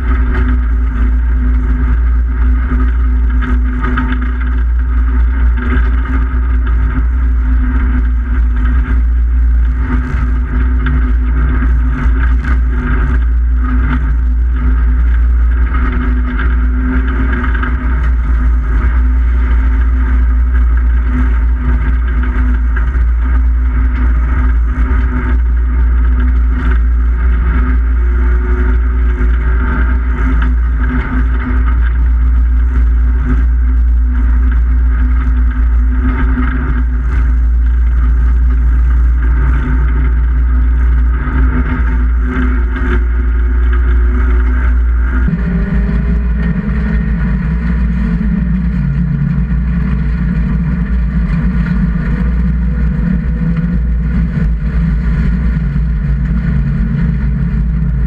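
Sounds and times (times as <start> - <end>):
heavy low rumble: 0.0 - 58.0
race car engine running hard: 0.0 - 58.0.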